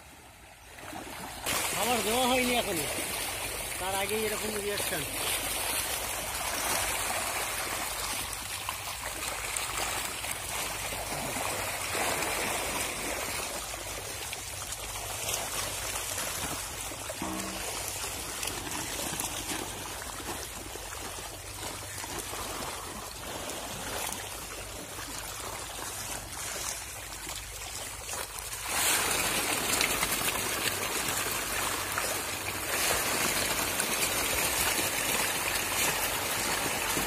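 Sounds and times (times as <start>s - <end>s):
fish splashing in pond water: 0.0s - 37.0s.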